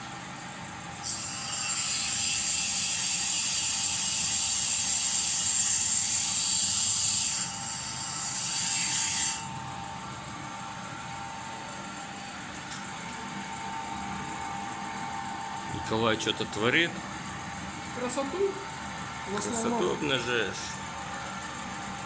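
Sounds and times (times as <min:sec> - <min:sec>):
grinding machine whine: 0:00.1 - 0:22.0.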